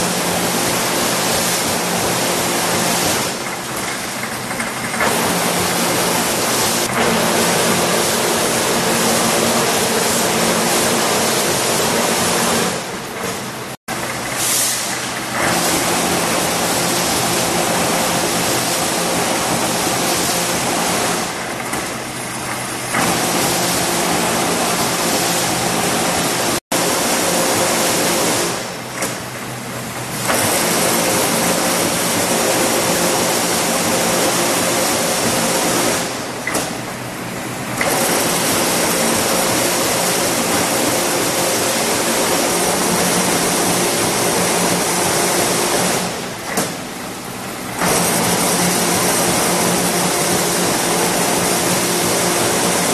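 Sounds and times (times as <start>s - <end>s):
machine humming: 0.0s - 52.9s.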